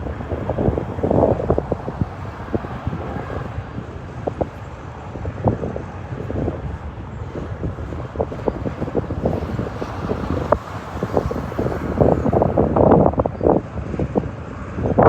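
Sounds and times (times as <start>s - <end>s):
jet engines rumbling and crackling: 0.0s - 15.0s
wind buffeting microphone: 0.0s - 15.0s.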